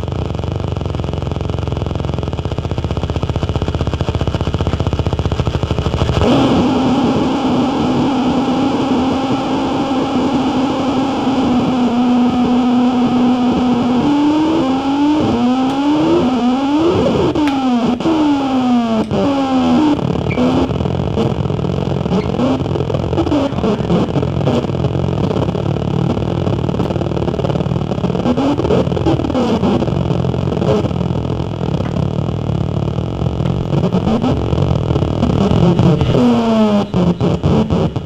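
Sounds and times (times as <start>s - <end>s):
distorted noise music: 0.0s - 38.0s
droning tone: 0.0s - 38.0s.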